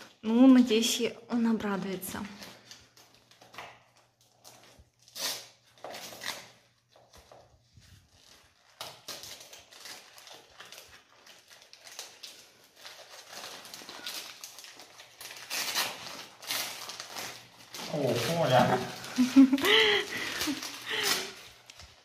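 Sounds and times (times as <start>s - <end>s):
paper and ribbon rustling: 1.4s - 22.0s.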